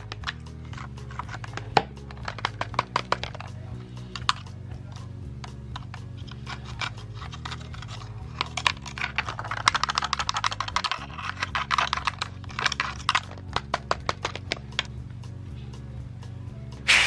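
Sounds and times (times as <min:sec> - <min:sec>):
crisp clicking percussion: 0:00.0 - 0:17.0
low bass line: 0:00.0 - 0:17.0.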